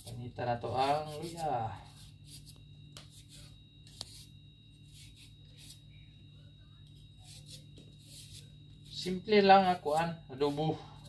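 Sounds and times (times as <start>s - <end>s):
knife scraping ginger: 0.0s - 5.9s, 7.2s - 11.0s
steady low hum: 0.0s - 11.0s.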